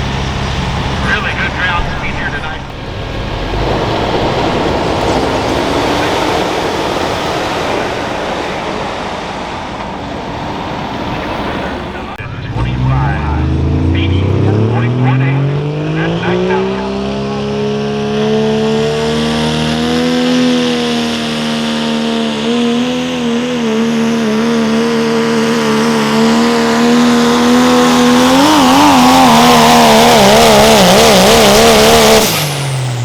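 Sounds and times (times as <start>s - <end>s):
diesel truck engine at full throttle: 0.0s - 33.0s.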